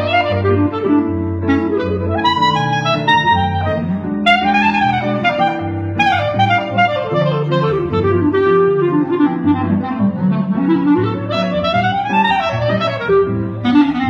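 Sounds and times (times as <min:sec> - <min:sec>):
bass notes: 0:00.0 - 0:14.0
live jazz group: 0:00.0 - 0:14.0
woodwind melody: 0:00.0 - 0:14.0.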